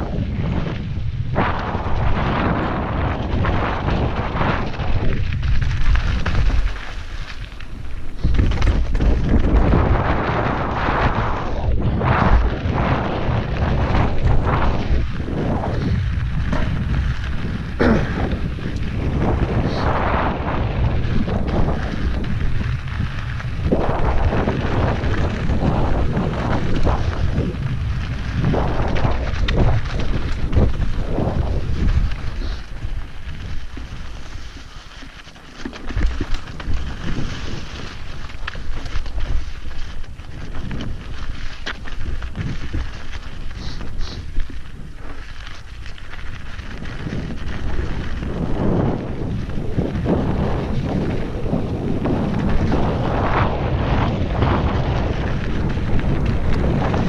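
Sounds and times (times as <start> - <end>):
bike tyres clattering over ground: 0.0 - 57.0
wind rumble on microphone: 0.0 - 57.0.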